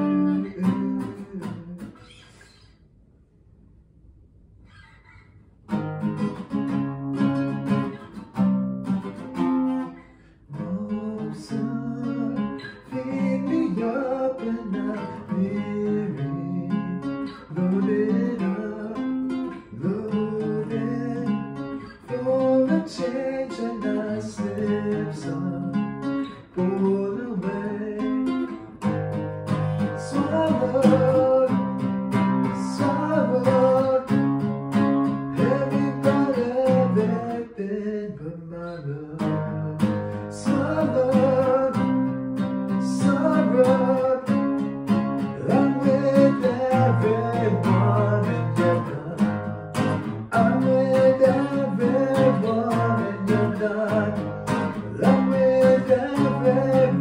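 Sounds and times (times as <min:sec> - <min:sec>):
acoustic guitar strumming: 0:00.0 - 0:02.5, 0:04.6 - 0:57.0.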